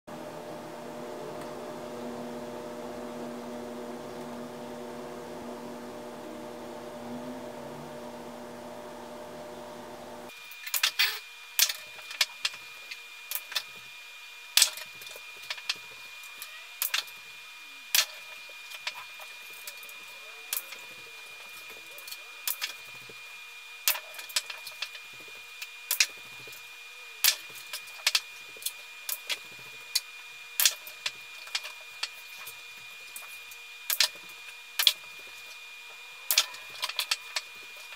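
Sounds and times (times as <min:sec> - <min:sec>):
faint high whine: 0:00.1 - 0:37.9
steady hum with tones: 0:00.1 - 0:37.9.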